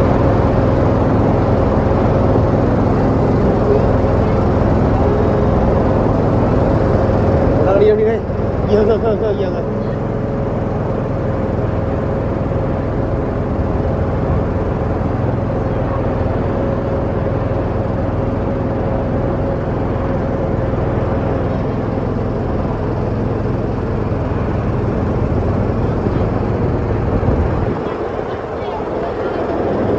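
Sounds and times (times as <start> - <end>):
boat engine running: 0.0 - 29.9
steady hum: 0.0 - 29.9.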